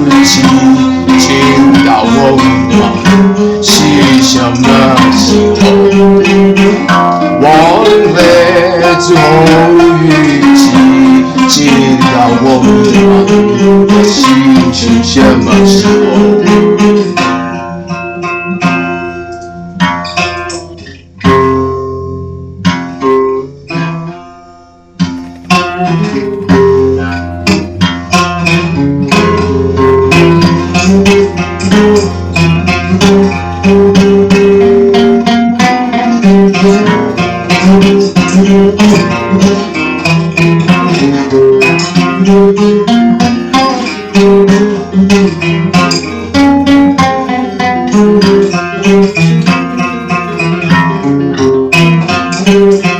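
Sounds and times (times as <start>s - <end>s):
plucked guitar folk music: 0.0s - 52.9s.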